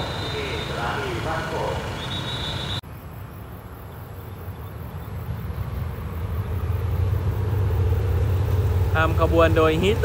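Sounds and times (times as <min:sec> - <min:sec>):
distant locomotive engine rumble: 0:00.0 - 0:10.0.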